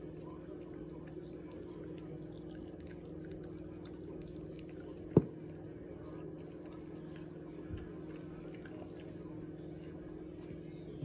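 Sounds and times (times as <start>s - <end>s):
wet chewing: 0.0s - 9.5s
steady low hum: 0.0s - 11.0s.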